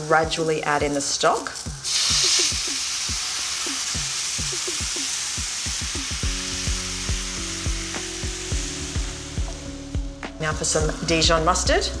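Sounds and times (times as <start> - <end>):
stock sizzling in a frying pan: 0.0 - 12.0
background music with low beat: 0.1 - 12.0.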